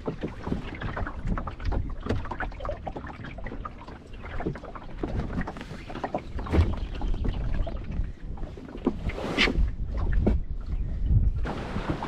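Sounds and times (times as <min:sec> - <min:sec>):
water splashing against a hull: 0:00.0 - 0:12.0
wind rumble on microphone: 0:00.0 - 0:12.0.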